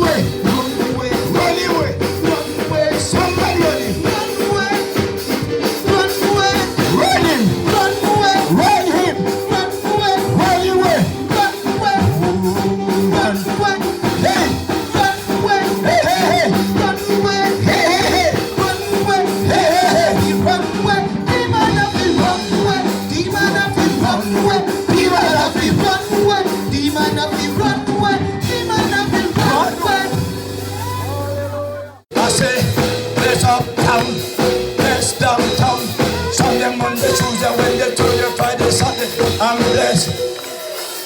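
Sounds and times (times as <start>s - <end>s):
gospel music with singing: 0.0s - 41.0s.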